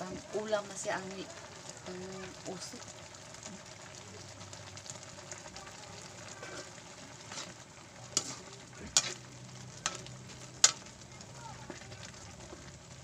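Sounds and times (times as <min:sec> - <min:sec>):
noodles sizzling in a frying pan: 0:00.0 - 0:13.0.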